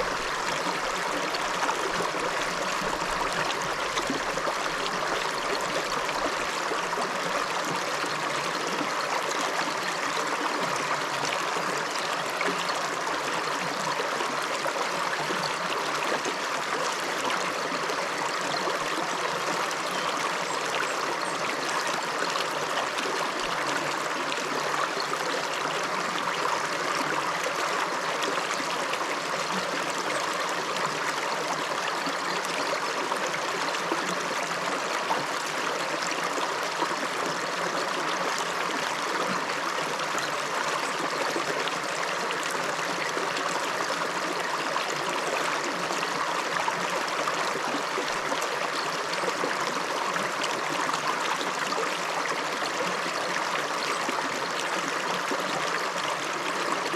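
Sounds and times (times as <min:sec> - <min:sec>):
river flowing over rocks: 0:00.0 - 0:56.9.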